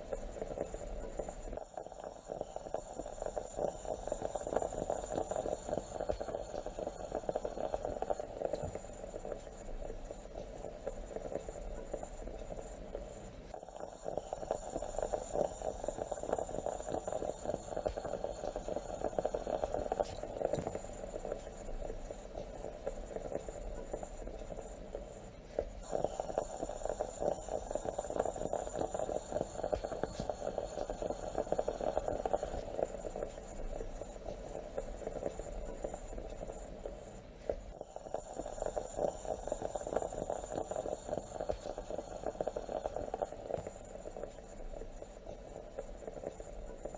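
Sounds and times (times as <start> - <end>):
moka pot bubbling and sputtering: 0.0 - 46.9.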